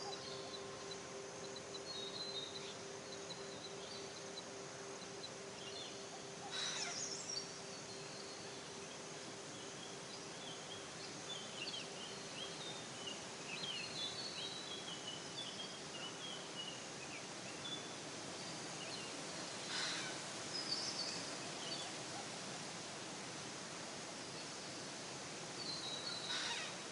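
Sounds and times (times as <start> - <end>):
steady background hiss: 0.0 - 26.9.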